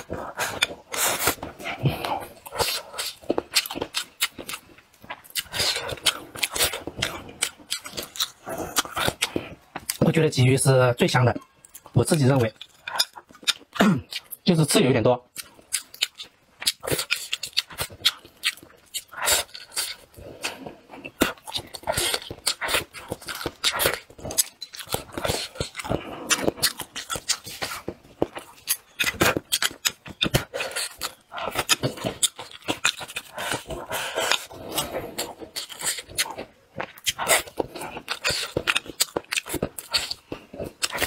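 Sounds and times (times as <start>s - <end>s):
person chewing with lip smacks: 0.0s - 10.1s, 11.3s - 14.4s, 15.3s - 41.0s.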